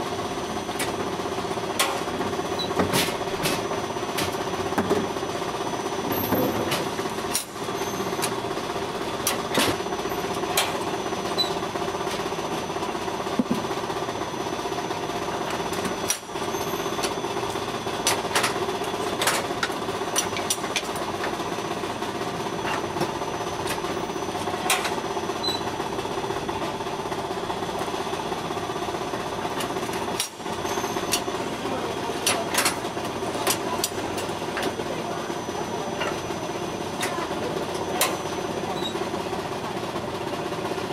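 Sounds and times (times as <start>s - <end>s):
machine mechanical hum: 0.0s - 40.9s.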